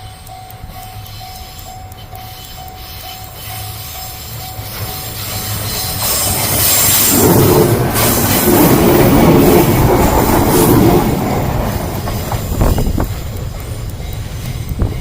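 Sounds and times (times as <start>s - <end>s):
electric train running: 0.0s - 15.0s
level-crossing warning bell: 0.0s - 15.0s.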